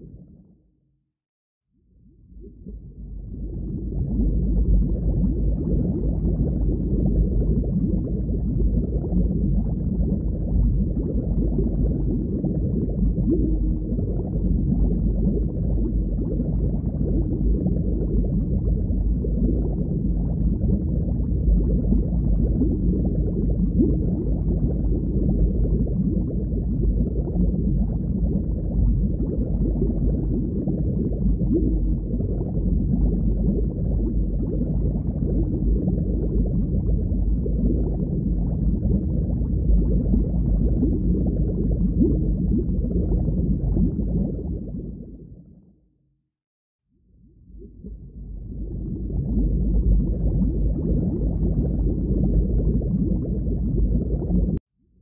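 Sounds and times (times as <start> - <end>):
muffled underwater rumble: 0.0 - 1.0, 1.7 - 55.0.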